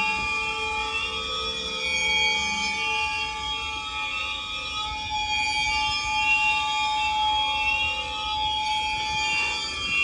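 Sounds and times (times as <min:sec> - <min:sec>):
train wheels squealing: 0:00.0 - 0:10.0.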